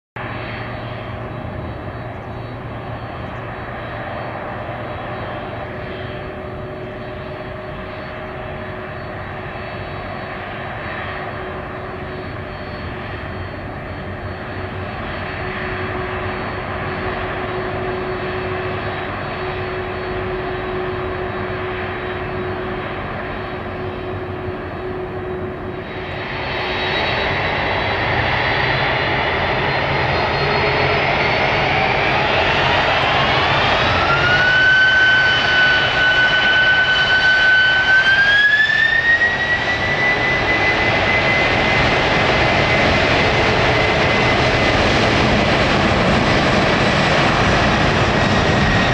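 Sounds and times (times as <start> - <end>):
jet engines whining: 0.2 - 48.9.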